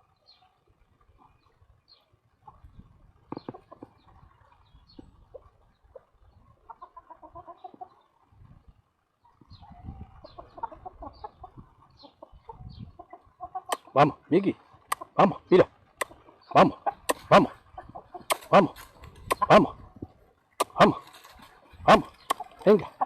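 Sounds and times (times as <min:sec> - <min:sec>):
hens clucking: 0:02.3 - 0:08.3, 0:09.2 - 0:23.0.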